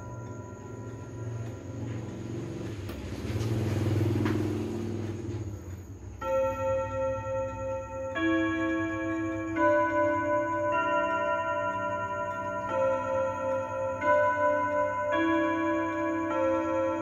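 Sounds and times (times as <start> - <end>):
clock chime rods ringing: 0.0 - 17.0.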